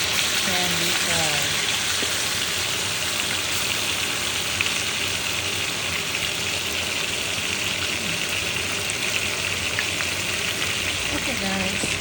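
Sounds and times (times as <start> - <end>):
fish sizzling in a skillet: 0.0 - 12.0.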